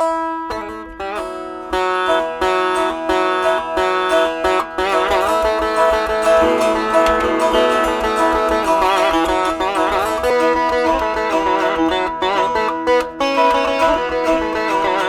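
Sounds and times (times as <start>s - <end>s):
plucked veena with pitch bends: 0.0s - 15.0s.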